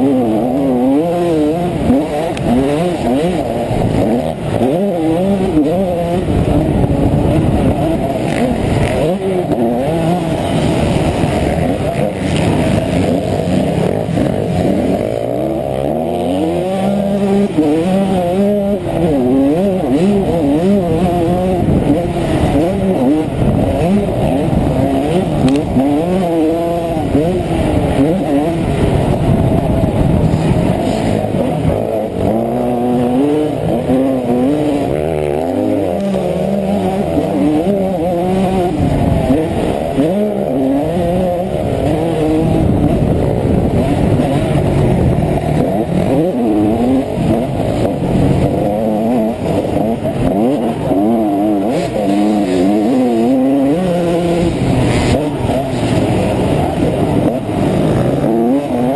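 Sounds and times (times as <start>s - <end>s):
muffled dirt bike engine revving: 0.0s - 58.9s.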